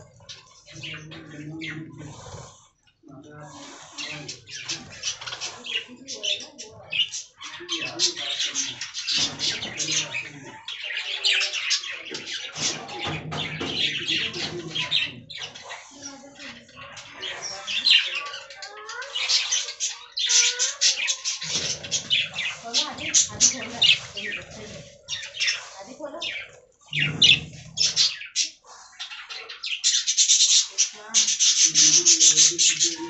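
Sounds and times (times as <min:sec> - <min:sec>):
budgerigars chattering and chirping: 0:00.0 - 0:33.0.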